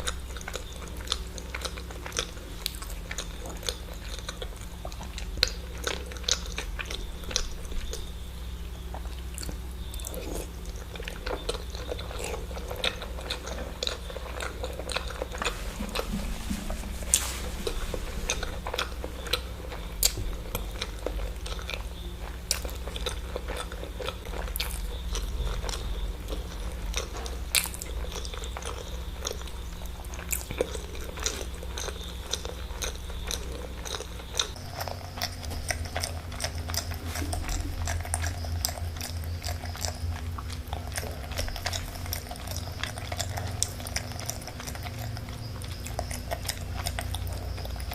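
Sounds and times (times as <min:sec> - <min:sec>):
chewing and biting eggs: 0:00.0 - 0:47.9.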